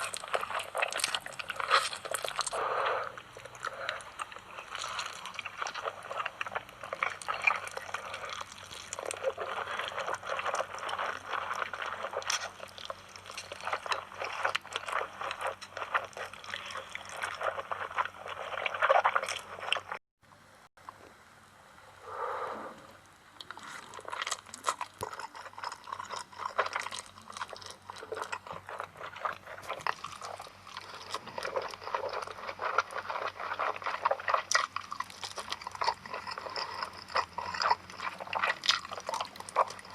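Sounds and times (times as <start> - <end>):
slurping and chewing noodles: 0.0 - 20.0, 23.4 - 39.9.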